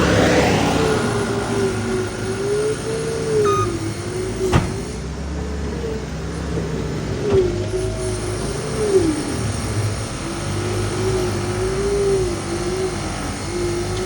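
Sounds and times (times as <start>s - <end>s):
skid steer engine rumble: 0.0s - 14.0s.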